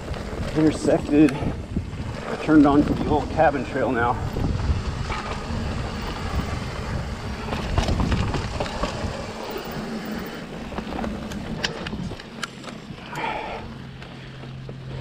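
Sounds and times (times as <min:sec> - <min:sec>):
wind rushing over microphone: 0:00.0 - 0:13.8
bike clicking and rattling: 0:00.0 - 0:15.0
bike tyres rolling on dirt: 0:00.0 - 0:15.0.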